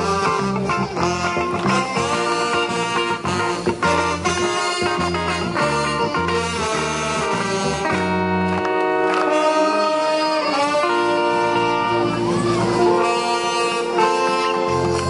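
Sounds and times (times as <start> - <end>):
wind band playing a tune: 0.0 - 15.0.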